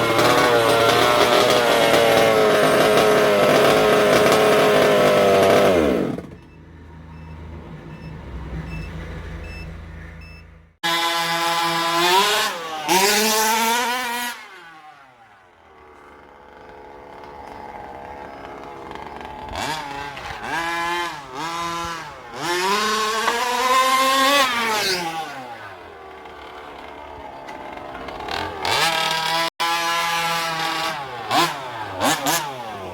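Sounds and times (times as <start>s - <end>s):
small two-stroke engine revving: 0.0s - 9.0s, 10.8s - 32.9s.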